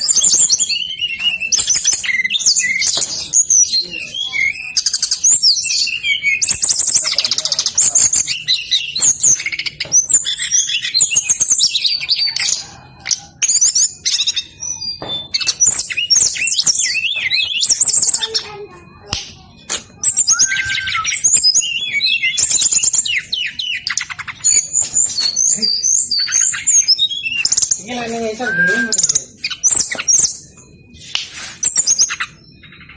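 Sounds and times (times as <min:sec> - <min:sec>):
bird singing trills and whistles: 0:00.0 - 0:32.9.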